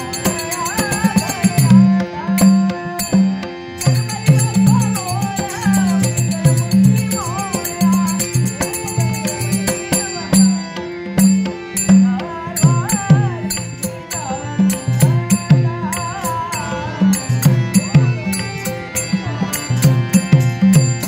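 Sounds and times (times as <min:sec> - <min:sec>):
man singing: 0:00.0 - 0:21.0.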